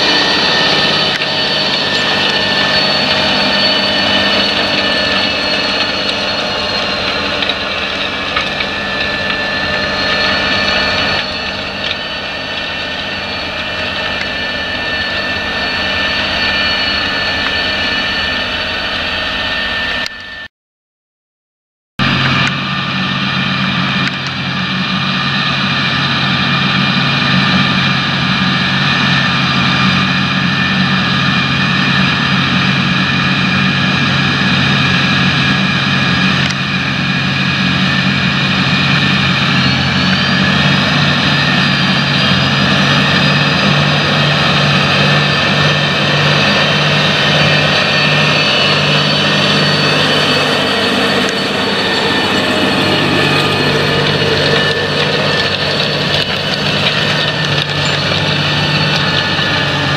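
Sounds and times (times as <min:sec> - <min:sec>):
tractor diesel engine under load: 0:00.0 - 0:20.2, 0:22.0 - 0:59.9
high whine: 0:00.0 - 0:20.5, 0:22.0 - 0:59.9.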